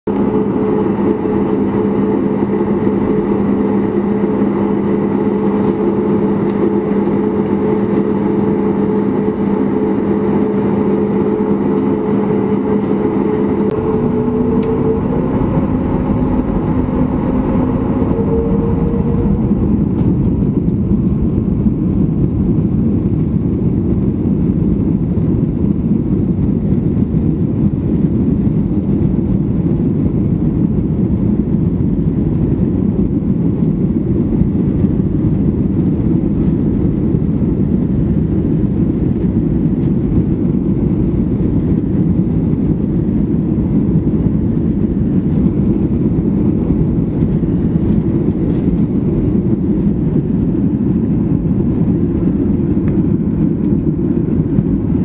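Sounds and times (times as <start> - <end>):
jet engines humming: 0.0 - 55.0
jet rumbling down runway: 0.0 - 55.0.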